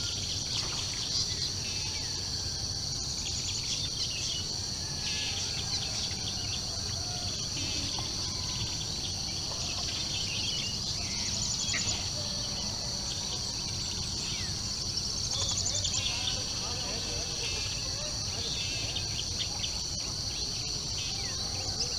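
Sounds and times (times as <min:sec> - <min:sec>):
birds calling and trilling: 0:00.0 - 0:21.9
insects droning: 0:00.0 - 0:21.9.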